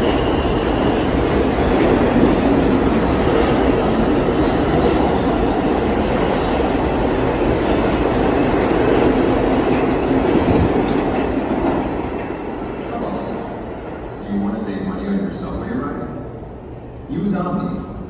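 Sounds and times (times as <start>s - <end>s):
subway train wheels rumbling: 0.0s - 18.0s.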